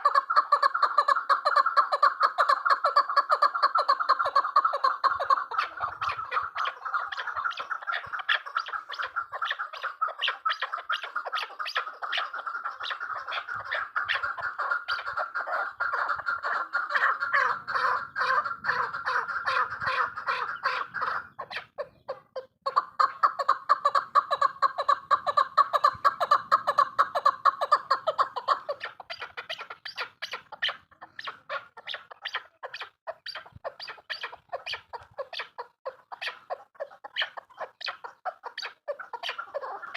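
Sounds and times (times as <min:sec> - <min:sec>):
partridge calling: 0:00.0 - 0:39.9.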